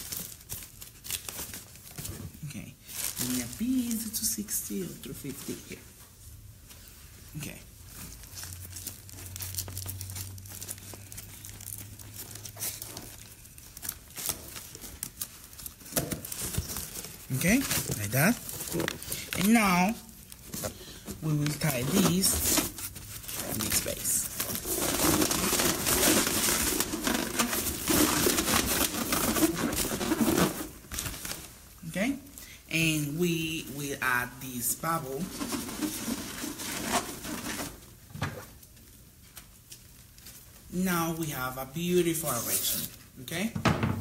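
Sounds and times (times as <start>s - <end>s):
balloons rubbing and crinkling: 0.0s - 38.0s, 40.1s - 43.2s.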